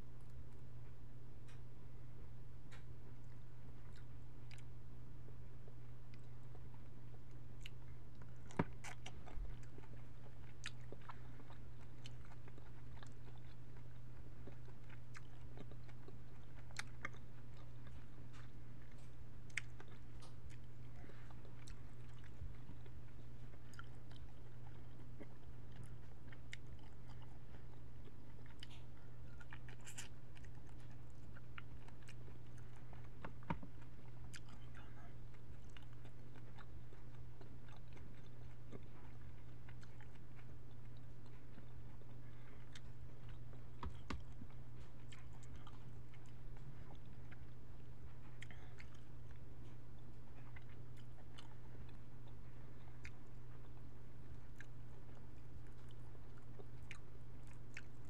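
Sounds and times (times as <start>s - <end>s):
low electrical hum: 0.0s - 58.0s
chewing shrimp: 2.7s - 4.8s, 5.9s - 58.0s.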